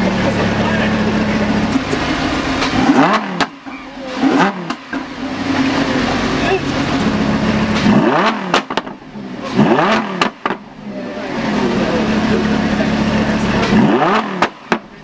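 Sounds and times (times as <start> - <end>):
car engine idling: 0.0 - 15.0
car engine revving: 0.0 - 15.0
exhaust cracks: 0.0 - 15.0.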